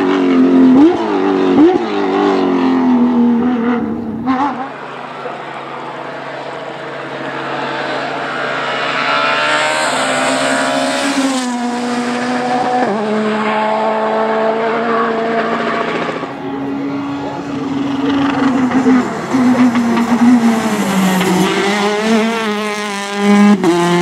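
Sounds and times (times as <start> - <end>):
rally car engine passing: 0.0 - 24.0.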